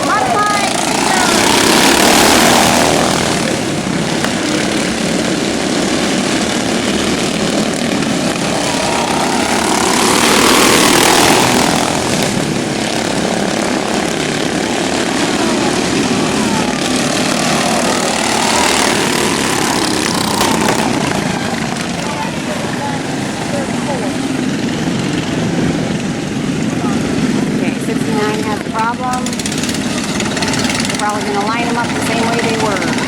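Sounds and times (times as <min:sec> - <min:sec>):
racing lawn mower engines: 0:00.0 - 0:33.0.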